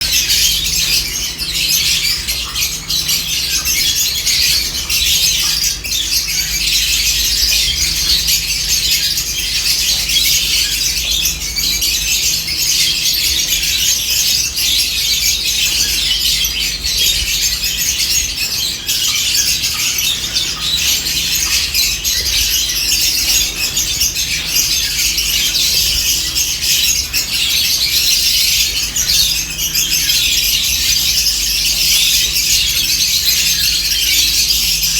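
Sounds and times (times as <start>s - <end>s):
flock of birds chattering: 0.0s - 34.9s.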